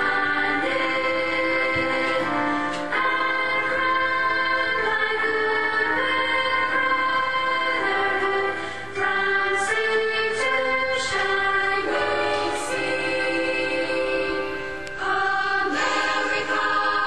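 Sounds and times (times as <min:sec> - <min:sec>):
voices singing long notes: 0:00.0 - 0:17.0.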